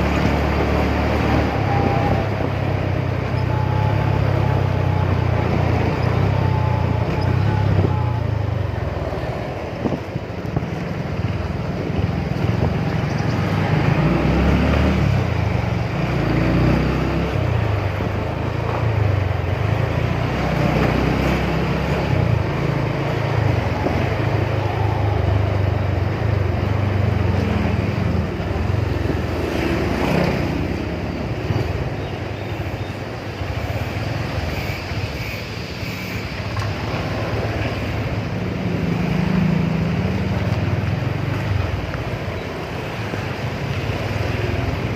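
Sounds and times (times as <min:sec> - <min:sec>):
wind and road noise: 0:00.0 - 0:44.9.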